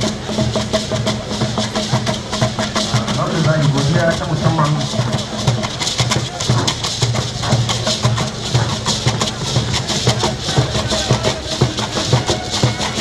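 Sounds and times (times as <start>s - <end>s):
crowd hubbub: 0.0s - 13.0s
deep drum strokes: 0.0s - 13.0s
rattling percussion: 0.0s - 13.0s.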